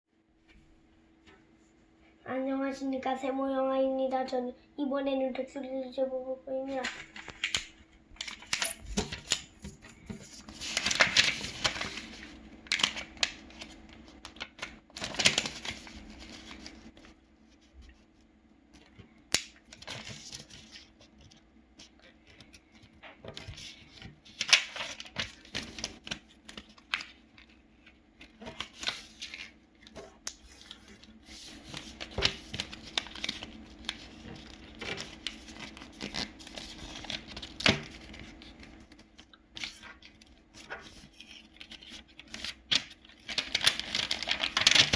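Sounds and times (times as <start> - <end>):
faint steady hum: 0.1 - 44.9
paper folding and creasing: 6.7 - 44.9.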